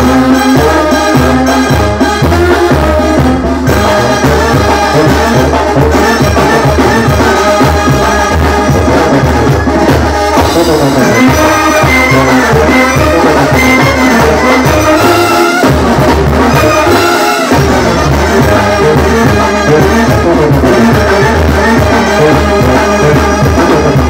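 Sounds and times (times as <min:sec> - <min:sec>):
brass band playing: 0:00.0 - 0:24.0
trombones: 0:00.0 - 0:24.0.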